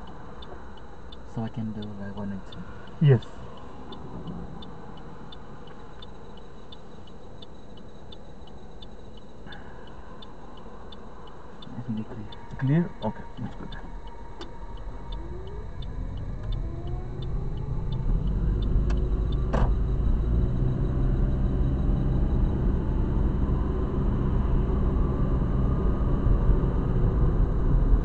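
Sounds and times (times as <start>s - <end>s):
car engine accelerating: 0.0s - 8.2s, 8.8s - 28.0s
turn signal ticking: 0.0s - 24.3s.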